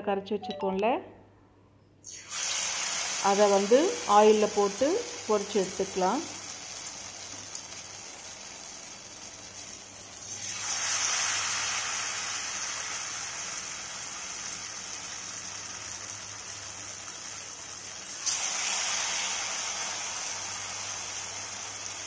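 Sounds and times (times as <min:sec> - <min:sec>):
balls deep-frying in hot oil: 0:02.0 - 0:22.0.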